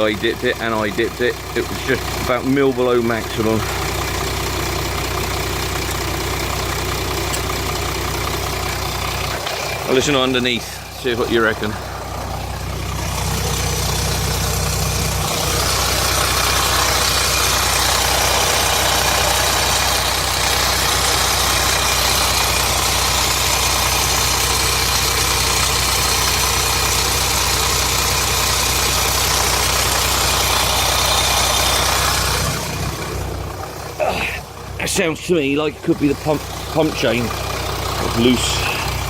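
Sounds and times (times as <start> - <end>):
diesel engine idling with rattle: 0.0 - 39.0.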